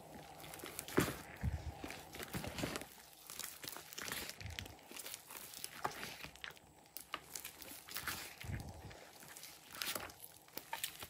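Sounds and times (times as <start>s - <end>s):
sticky slime clicks and crackles: 0.2s - 11.0s.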